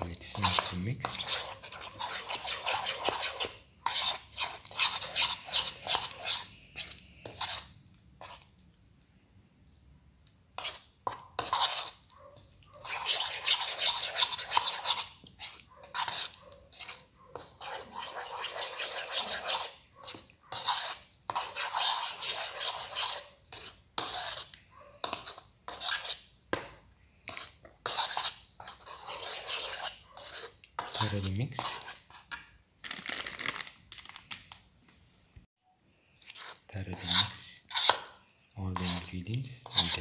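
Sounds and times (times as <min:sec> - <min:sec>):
spoon mixing thick batter: 0:00.0 - 0:34.6, 0:36.0 - 0:40.0.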